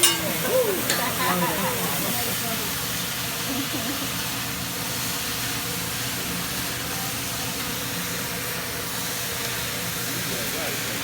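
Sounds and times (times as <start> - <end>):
restaurant background hiss: 0.0 - 11.0.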